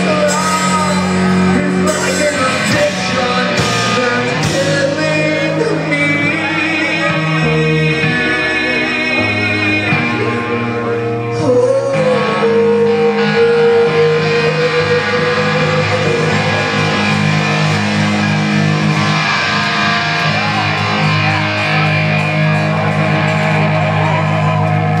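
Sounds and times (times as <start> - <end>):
electric guitar: 0.0 - 25.0
live rock band: 0.0 - 25.0.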